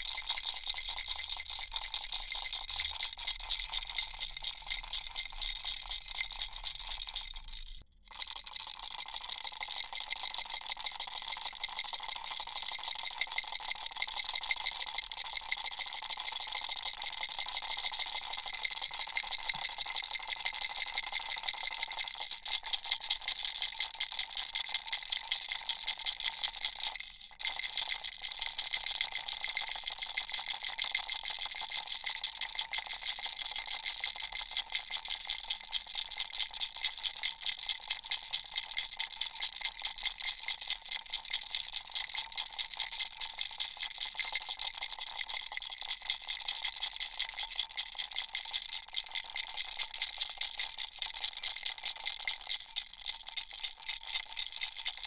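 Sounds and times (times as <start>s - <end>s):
baby rattle shaken: 0.0s - 55.0s.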